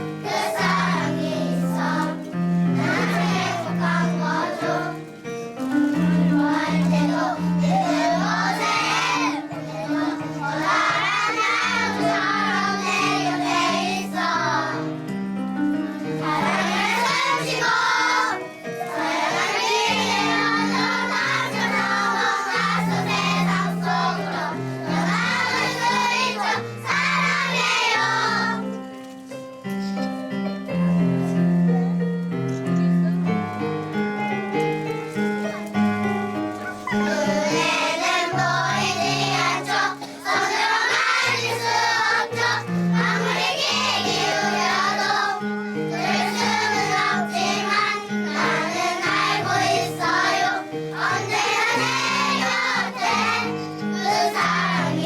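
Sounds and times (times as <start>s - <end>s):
children singing together: 0.0s - 28.8s, 35.1s - 55.0s
instrumental accompaniment: 0.0s - 55.0s.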